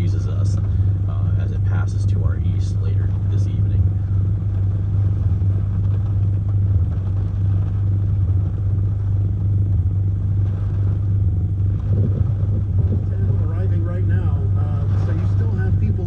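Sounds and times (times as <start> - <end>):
wind rumbling inside a van: 0.0 - 16.0.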